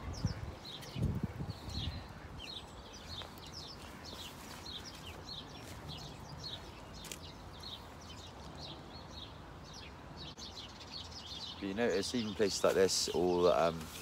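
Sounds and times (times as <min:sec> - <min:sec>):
bird chirping: 0:00.0 - 0:13.8.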